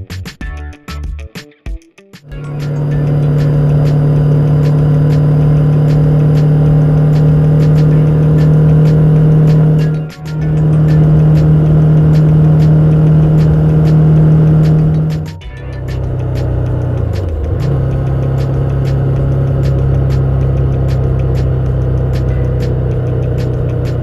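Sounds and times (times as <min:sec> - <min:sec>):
music with a regular beat: 0:00.0 - 0:24.0
motorcycle engine running: 0:02.3 - 0:24.0.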